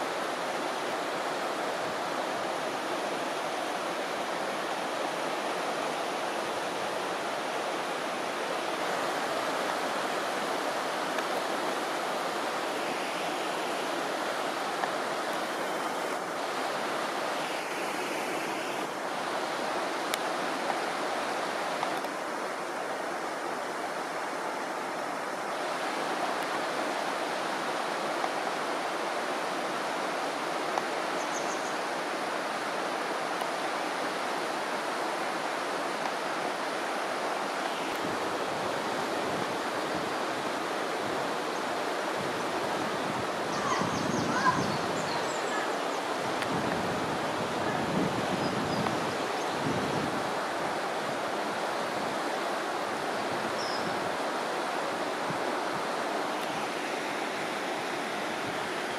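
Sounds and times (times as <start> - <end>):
river flowing over stones: 0.0 - 58.9.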